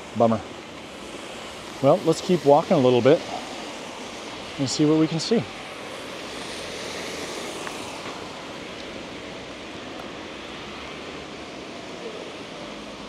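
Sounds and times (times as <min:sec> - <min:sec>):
street ambience hiss: 0:00.0 - 0:13.0.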